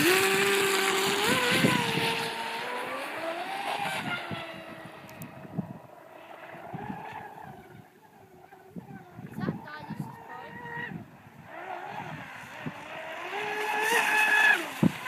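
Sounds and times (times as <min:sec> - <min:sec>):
model boat motor whine: 0:00.0 - 0:15.0.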